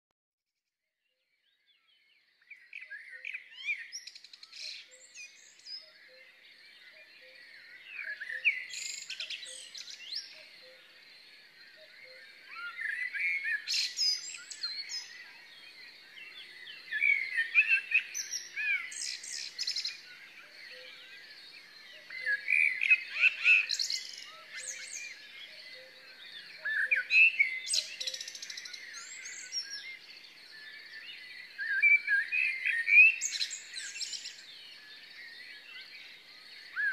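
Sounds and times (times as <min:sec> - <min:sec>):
songbirds singing: 0:01.0 - 0:36.9.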